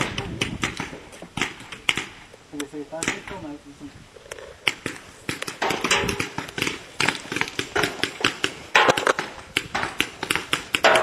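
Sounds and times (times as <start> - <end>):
paintball markers firing: 0.0 - 2.2, 3.0 - 3.4, 4.6 - 11.0.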